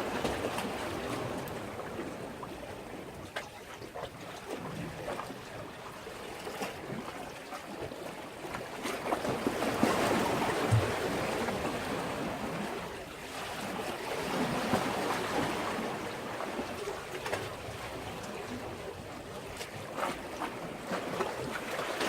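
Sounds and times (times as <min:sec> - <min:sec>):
sea waves against a breakwater: 0:00.0 - 0:22.0.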